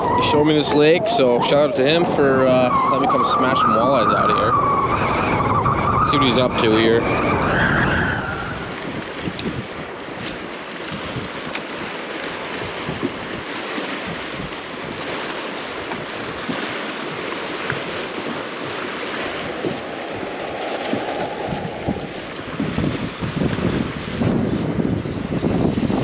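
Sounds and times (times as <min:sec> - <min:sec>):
waves lapping against hull: 0:00.0 - 0:26.0
wind buffeting microphone: 0:00.0 - 0:26.0.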